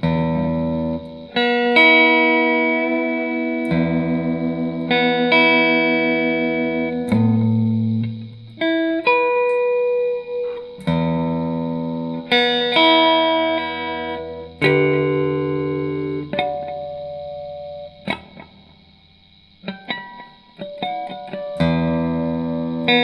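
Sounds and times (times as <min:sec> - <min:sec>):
electric guitar chords ringing: 0:00.0 - 0:23.0.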